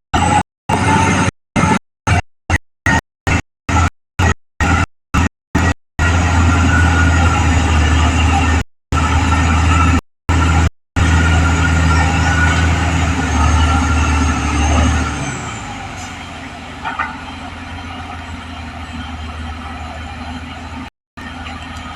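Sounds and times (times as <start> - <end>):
bulldozer diesel engine droning: 0.1 - 2.2, 2.9 - 21.9.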